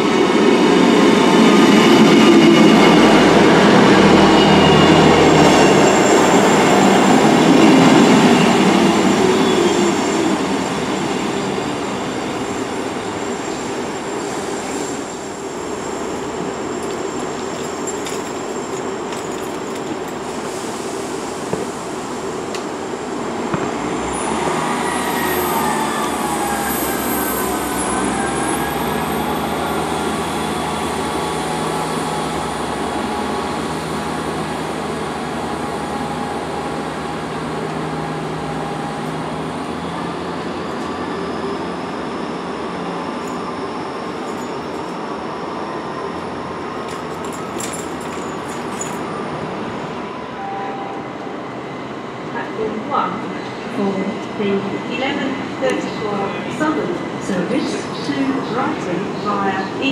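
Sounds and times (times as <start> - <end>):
diesel train engine drone: 0.0 - 59.9.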